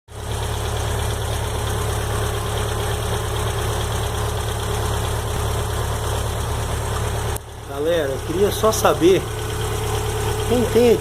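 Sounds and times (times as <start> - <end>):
car engine idling with ticking: 0.1 - 11.0.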